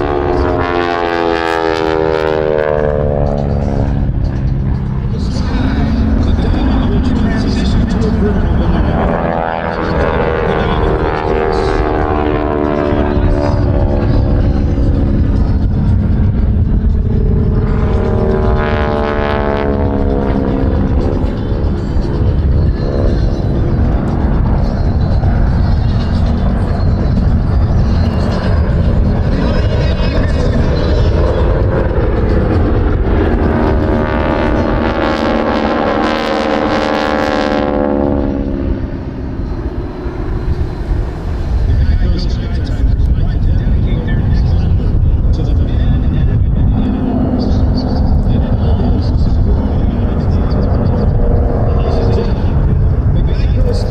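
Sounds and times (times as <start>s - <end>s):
propeller aircraft flying past: 0.0s - 53.9s
wind rumble on microphone: 0.0s - 53.9s.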